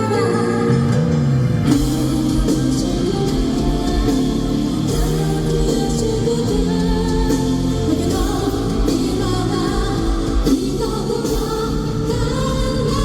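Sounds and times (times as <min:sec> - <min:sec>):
live rock band playing: 0:00.0 - 0:13.0
woman singing: 0:00.0 - 0:13.0.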